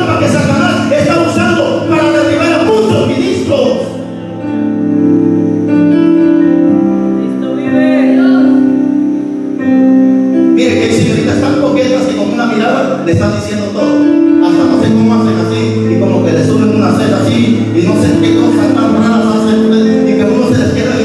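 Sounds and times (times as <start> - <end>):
electronic keyboard chords: 0.0 - 21.0.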